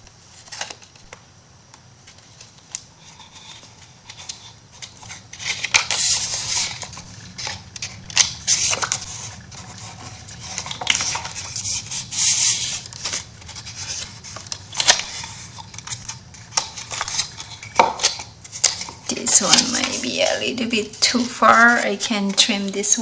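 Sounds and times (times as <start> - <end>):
paper being handled: 2.1 - 23.0
scissors cutting paper: 3.0 - 23.0.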